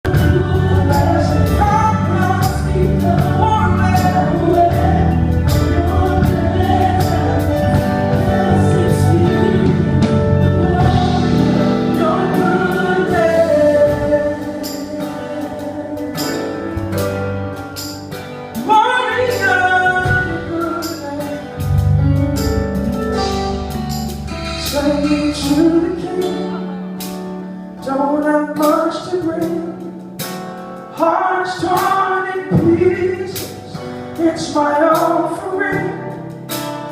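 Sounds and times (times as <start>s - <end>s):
gospel singers with band: 0.0s - 36.9s.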